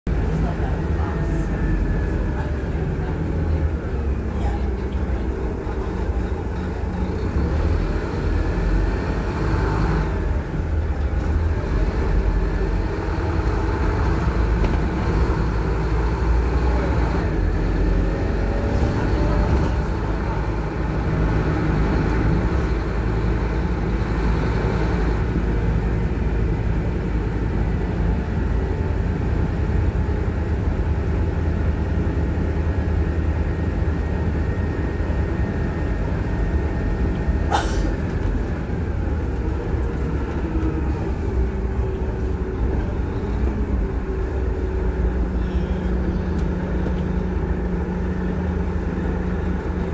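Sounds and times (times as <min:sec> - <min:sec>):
bus engine rumble: 0:00.0 - 0:49.9
road noise: 0:00.1 - 0:49.9.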